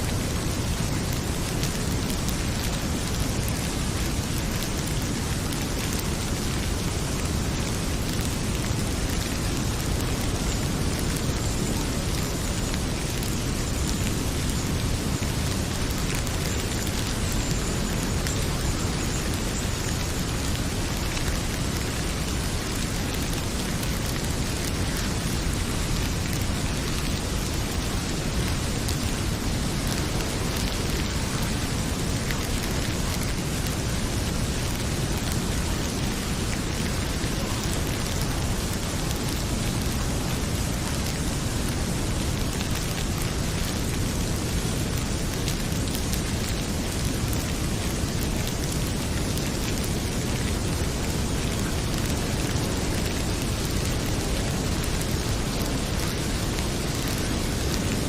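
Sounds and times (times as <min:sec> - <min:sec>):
heavy rain pouring: 0:00.0 - 0:58.0
wood fire crackling: 0:00.1 - 0:58.0.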